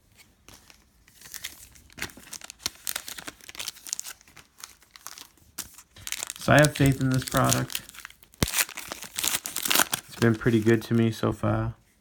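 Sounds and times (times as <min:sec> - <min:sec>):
wrapper crackling and tearing: 0:00.5 - 0:11.2.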